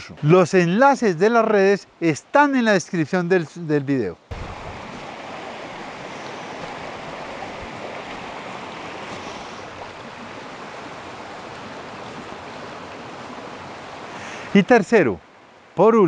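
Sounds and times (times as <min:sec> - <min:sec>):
stream running over stones: 0:00.0 - 0:16.0.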